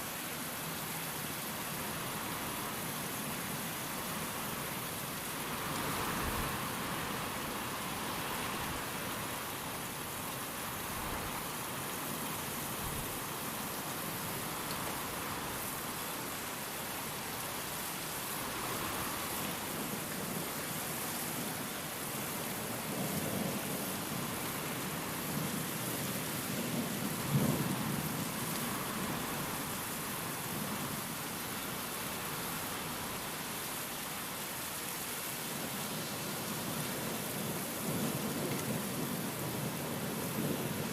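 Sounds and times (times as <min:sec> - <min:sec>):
heavy rain: 0:00.0 - 0:40.9
wind: 0:00.0 - 0:40.9.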